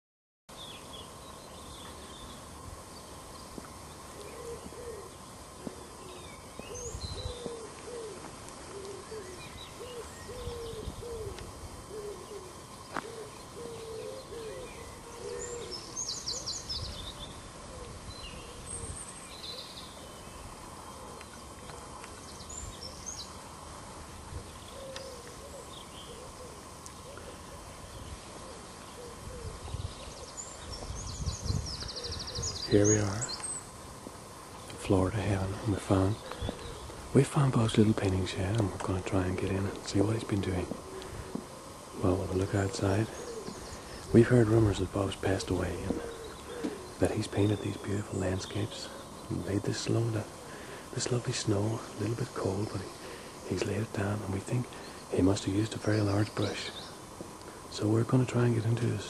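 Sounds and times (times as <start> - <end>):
short low bird calls: 0.5 - 23.4, 24.1 - 59.0.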